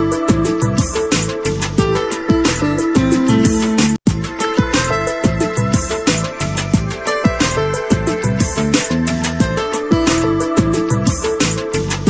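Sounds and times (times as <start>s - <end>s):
music with deep bass beat: 0.0s - 12.0s.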